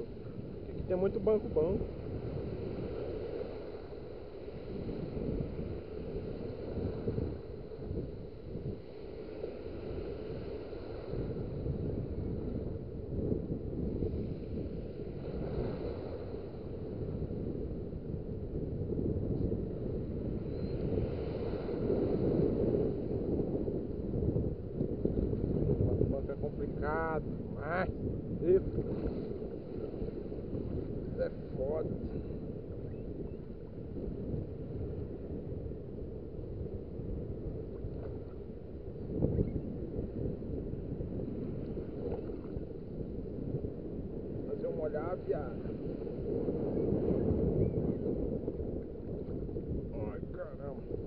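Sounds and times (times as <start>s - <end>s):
small surf waves washing: 0.0s - 18.7s, 19.4s - 51.0s
wind buffeting microphone: 0.0s - 51.0s.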